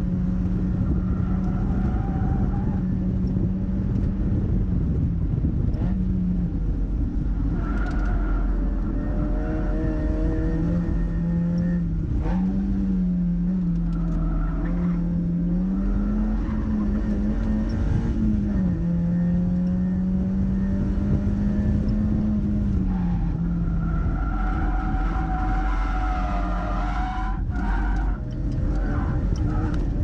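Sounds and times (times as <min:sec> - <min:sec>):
car engine running hard: 0:00.0 - 0:30.0
road and wind noise: 0:00.0 - 0:30.0.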